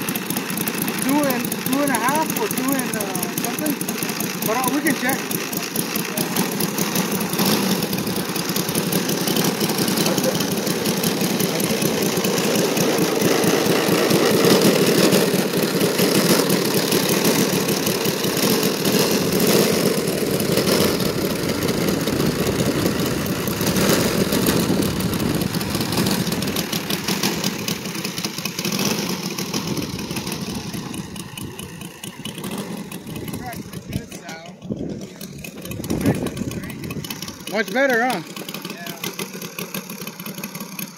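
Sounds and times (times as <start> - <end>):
model plane engine running: 0.0 - 40.9.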